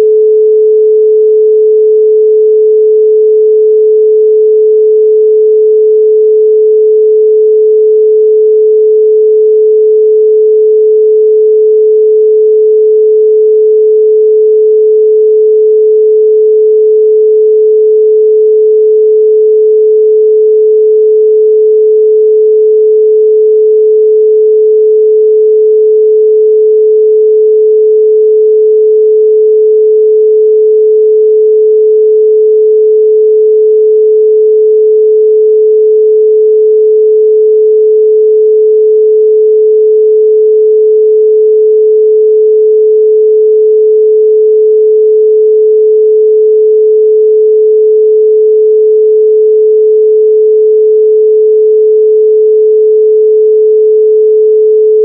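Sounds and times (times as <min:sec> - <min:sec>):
pure sine tone: 0:00.0 - 0:55.0.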